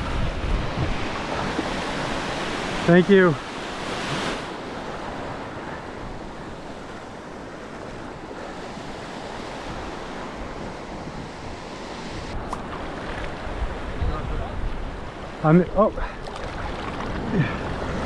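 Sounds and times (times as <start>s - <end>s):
ocean waves breaking on beach: 0.0s - 18.0s.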